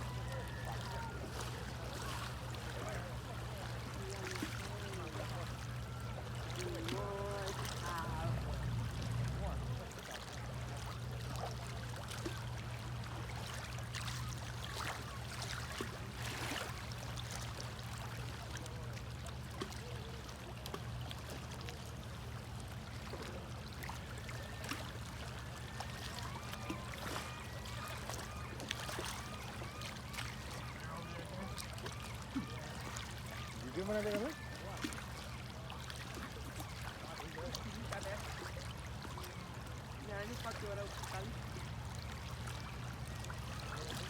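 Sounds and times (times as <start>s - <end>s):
river water running: 0.0s - 44.0s
small clicks and splashes: 0.6s - 44.0s.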